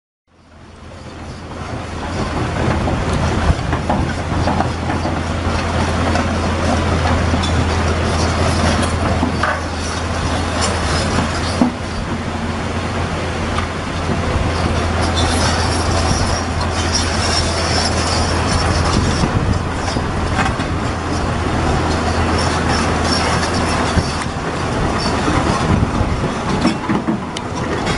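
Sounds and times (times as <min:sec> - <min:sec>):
diesel engine running: 0:00.4 - 0:27.9
high squeal from tracks: 0:00.4 - 0:27.9
clatter of track links: 0:01.3 - 0:12.1, 0:13.6 - 0:27.9
track clunks: 0:01.5 - 0:27.9.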